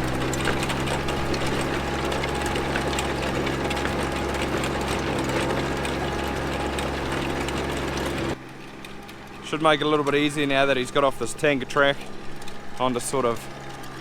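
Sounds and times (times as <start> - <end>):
digging rattling clatter: 0.0 - 14.0
trencher engine droning: 0.0 - 14.0.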